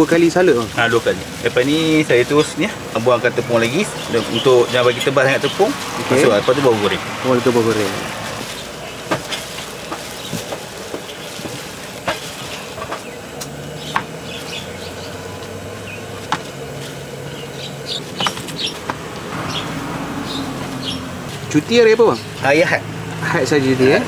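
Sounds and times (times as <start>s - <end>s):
steady background hiss: 0.0s - 19.4s
plastic gloves rustling: 0.0s - 21.9s.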